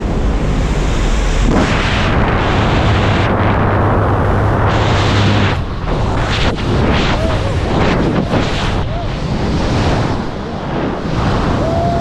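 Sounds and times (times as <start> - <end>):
plane engine drone: 0.0 - 12.0
wind buffeting microphone: 0.0 - 12.0.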